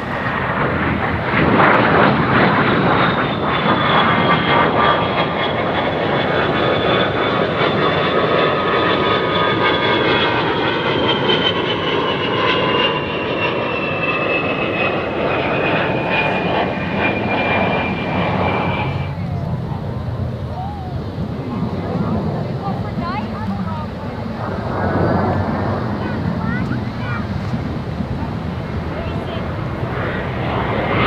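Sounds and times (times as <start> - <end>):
jet aircraft flying past: 0.0 - 31.0.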